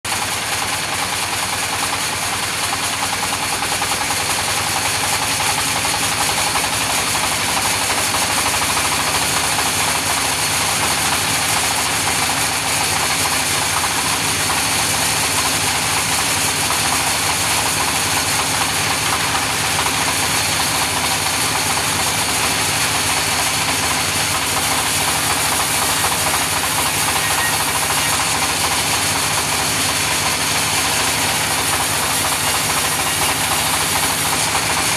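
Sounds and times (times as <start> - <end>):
sawmill saw ripping log: 0.9 - 34.9.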